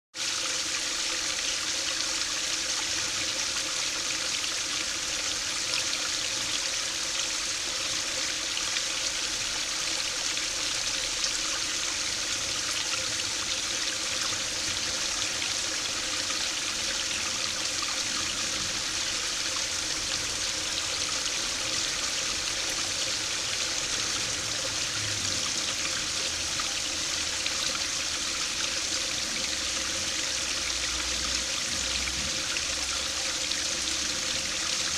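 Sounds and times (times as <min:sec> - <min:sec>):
small waterfall splashing: 0:00.1 - 0:34.9.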